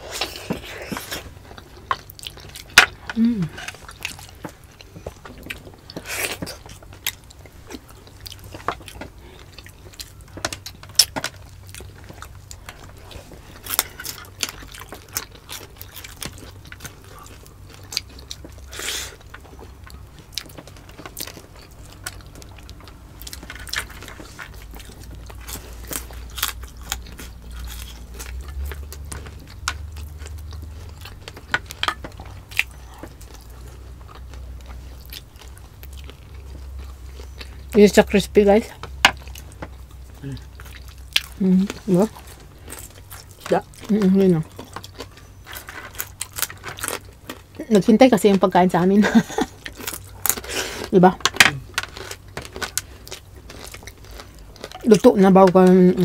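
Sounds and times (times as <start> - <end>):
chewing and biting: 0.0 - 47.6, 49.1 - 56.0.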